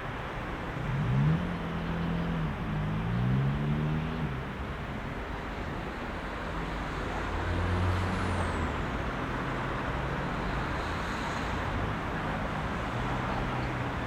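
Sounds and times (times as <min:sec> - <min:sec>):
heavy vehicle engine rumble: 0:00.0 - 0:14.0
traffic engines and tyres: 0:00.0 - 0:14.0.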